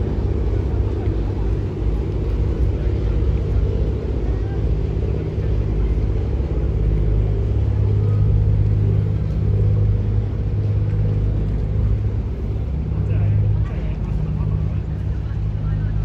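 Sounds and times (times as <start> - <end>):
ferry engine droning: 0.0 - 16.0.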